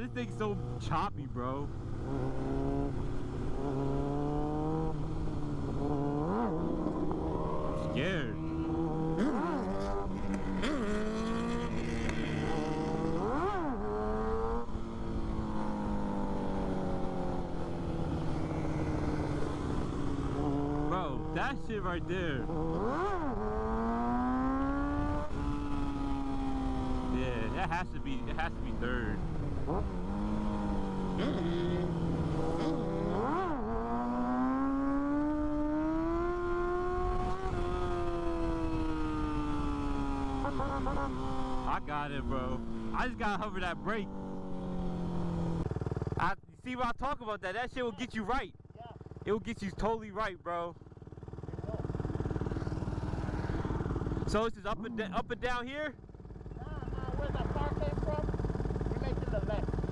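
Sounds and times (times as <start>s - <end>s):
motorcycle engine revving: 0.0s - 46.2s, 47.7s - 59.9s.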